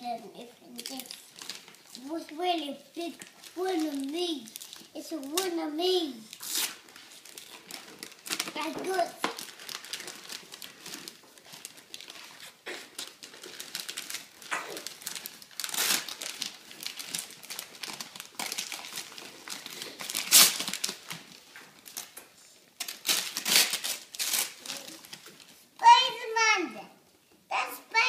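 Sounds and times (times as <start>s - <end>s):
wrapping paper crinkling: 0.6s - 25.8s.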